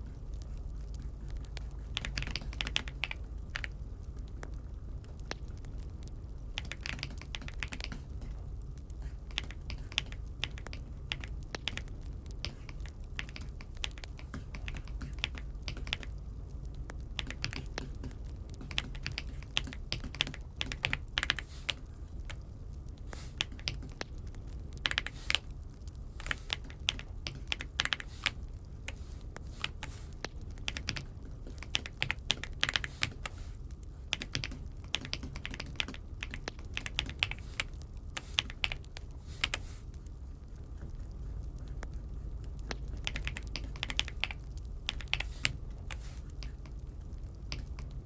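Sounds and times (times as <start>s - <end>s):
steady low hum: 0.0s - 48.0s
mechanical keyboard typing: 1.3s - 3.8s, 4.4s - 8.4s, 9.0s - 22.4s, 23.4s - 25.5s, 26.2s - 29.0s, 29.6s - 33.3s, 34.1s - 39.6s, 42.6s - 46.8s, 47.4s - 48.0s.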